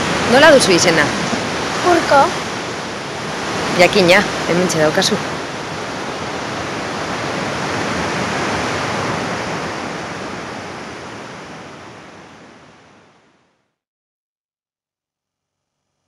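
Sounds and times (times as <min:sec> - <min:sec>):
sea surf breaking on beach: 0:00.0 - 0:13.4.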